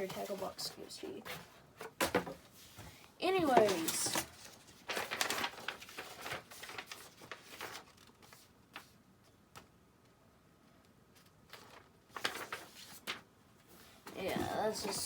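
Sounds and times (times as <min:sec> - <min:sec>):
paper rustling and crinkling: 0:00.0 - 0:09.7, 0:11.1 - 0:15.0.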